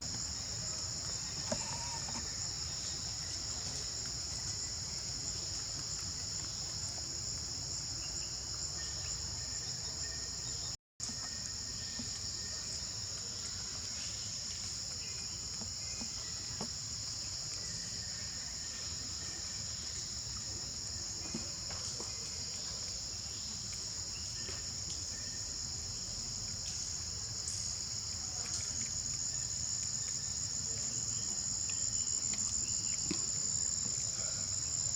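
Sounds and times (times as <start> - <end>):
high-pitched insect chorus: 0.1 - 34.9.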